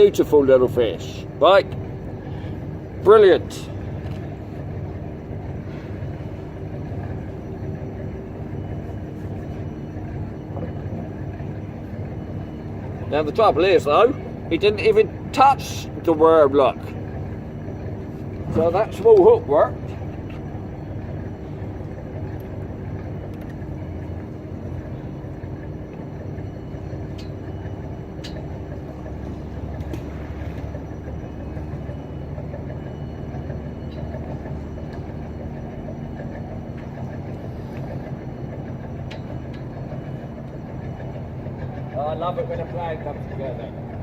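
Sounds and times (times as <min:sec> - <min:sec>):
large engine droning: 0:00.0 - 0:44.0.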